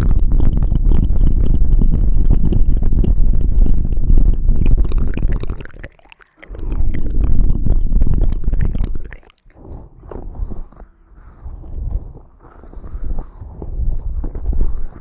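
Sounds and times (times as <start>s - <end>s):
close microphone rubbing and scratching: 0.0s - 15.0s.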